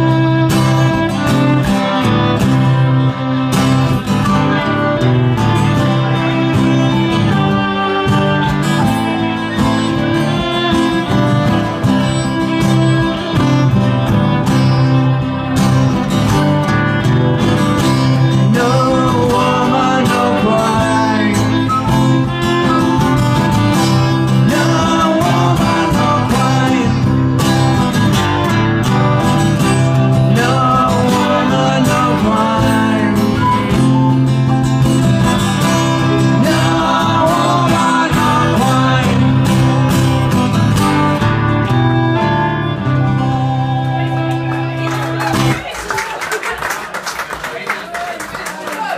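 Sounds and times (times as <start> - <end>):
steady bass: 0.0 - 45.6
strummed acoustic guitar: 0.0 - 45.7.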